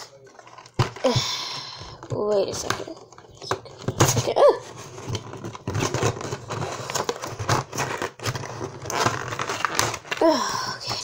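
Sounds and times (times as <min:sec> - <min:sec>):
card scraping and crinkling: 0:00.0 - 0:01.0, 0:02.4 - 0:10.2.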